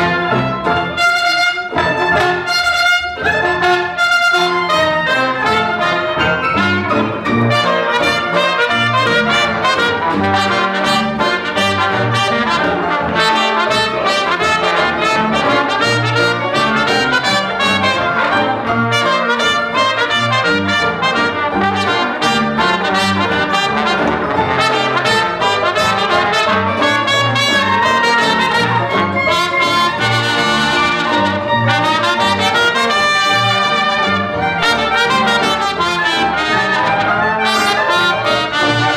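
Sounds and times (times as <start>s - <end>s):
dixieland jazz band playing: 0.0s - 38.9s.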